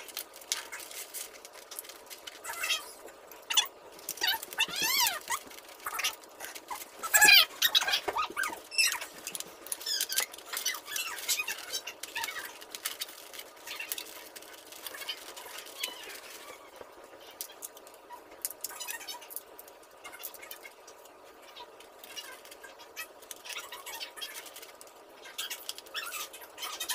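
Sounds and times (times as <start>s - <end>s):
foam puzzle pieces squeaking: 0.0s - 26.9s.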